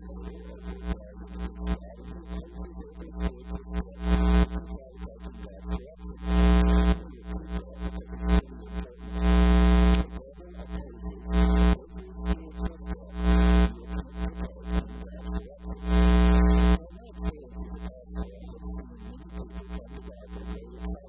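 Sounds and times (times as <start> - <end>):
electrical mains hum and buzz: 0.0 - 21.0.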